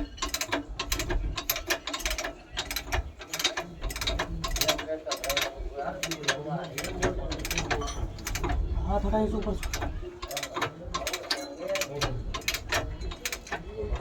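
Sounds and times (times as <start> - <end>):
hand tools clicking on metal: 0.0 - 8.6, 9.4 - 14.0.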